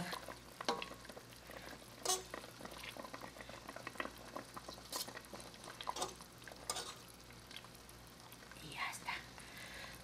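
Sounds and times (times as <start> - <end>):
broth bubbling in a pot: 0.0 - 10.0.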